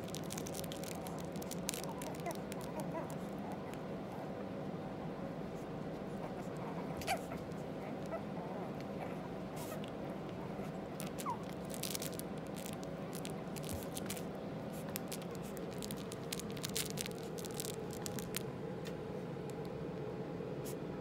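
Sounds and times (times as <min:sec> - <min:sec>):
puppies rustling and scratching: 0:00.0 - 0:04.3, 0:05.5 - 0:19.7
steady low hum: 0:00.0 - 0:21.0.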